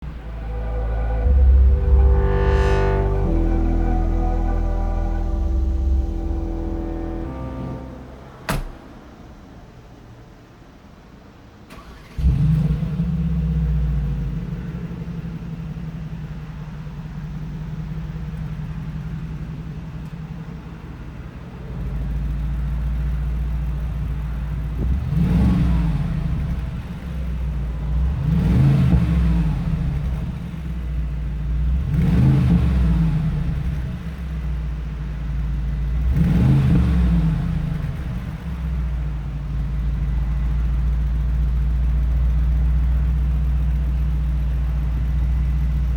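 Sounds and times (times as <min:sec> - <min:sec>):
car engine starting and revving: 0:00.0 - 0:09.9, 0:11.7 - 0:45.9.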